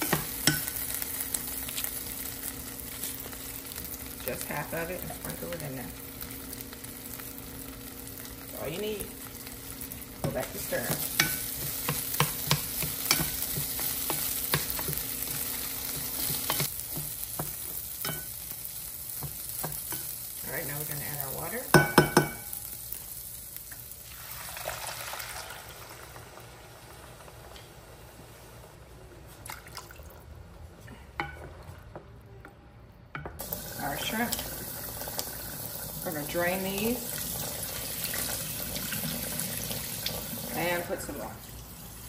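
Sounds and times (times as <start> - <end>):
rice sizzling in butter: 0.0 - 28.1, 33.4 - 42.0.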